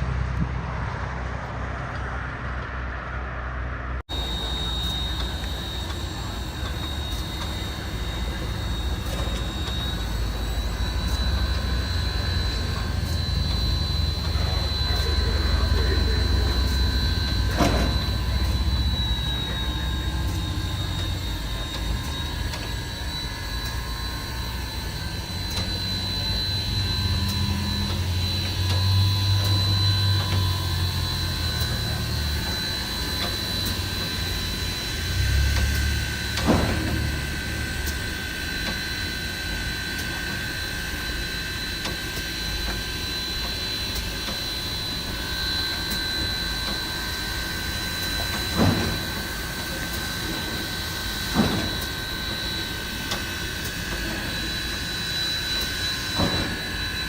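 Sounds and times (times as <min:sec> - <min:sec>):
high whining tones: 0:00.4 - 0:57.0
steam locomotive hissing: 0:04.1 - 0:57.0.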